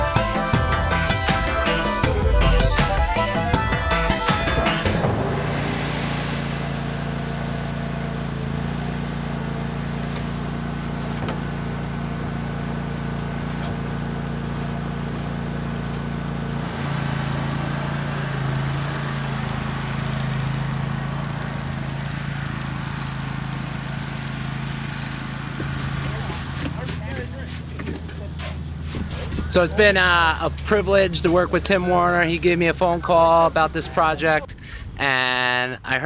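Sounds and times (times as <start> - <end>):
heavy machinery engine running: 0.0 - 35.0.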